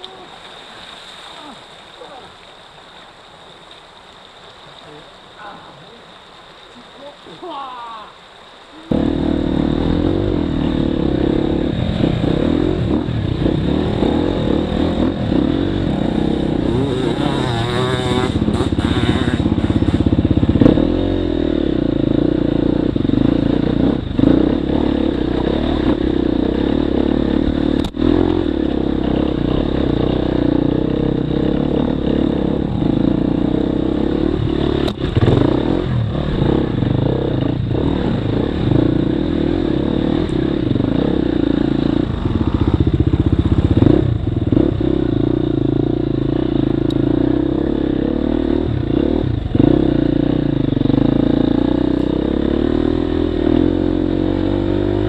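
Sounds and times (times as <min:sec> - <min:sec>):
dirt bike engine revving: 0:08.9 - 0:55.0.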